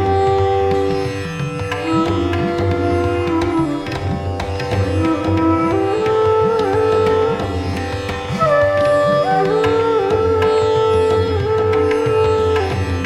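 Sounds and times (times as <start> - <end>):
sliding instrumental melody: 0.0 - 13.0.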